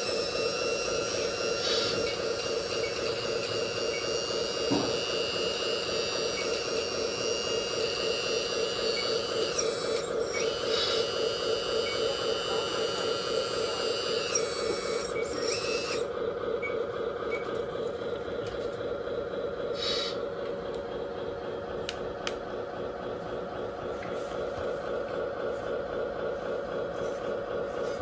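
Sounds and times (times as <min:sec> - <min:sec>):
high motor whine: 0:00.0 - 0:28.0.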